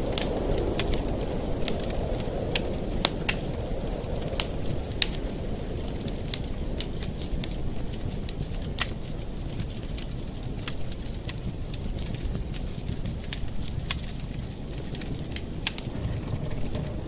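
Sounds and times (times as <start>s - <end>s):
burning wood crackling and popping: 0.0s - 17.0s
flames rushing: 0.0s - 17.0s.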